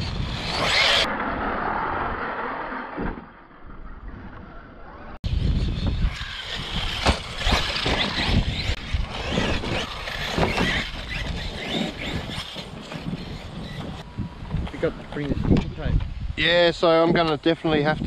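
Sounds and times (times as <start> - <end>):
high motor whine: 0.0 - 15.7.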